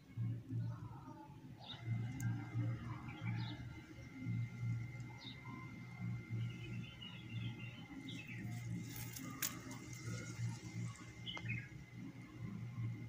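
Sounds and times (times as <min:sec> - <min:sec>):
small birds chirping: 0:00.2 - 0:13.0
thin steady high tone: 0:01.6 - 0:13.0.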